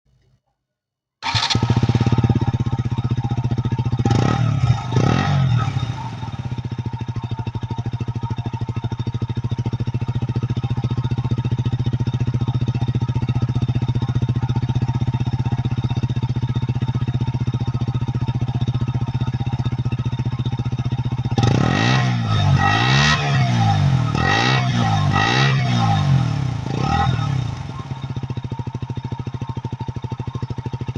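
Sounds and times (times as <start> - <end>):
motorcycle engine revving and idling: 1.2 - 30.9.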